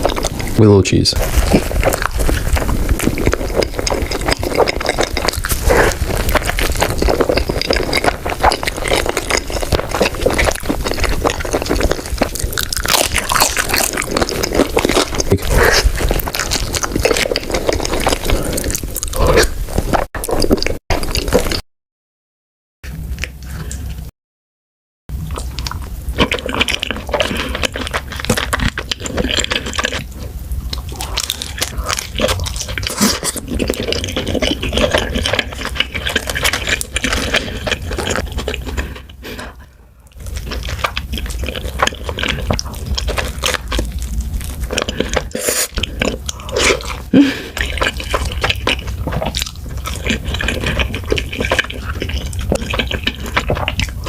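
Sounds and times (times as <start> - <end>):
wet chewing and crunching: 0.0 - 21.6, 25.1 - 54.0.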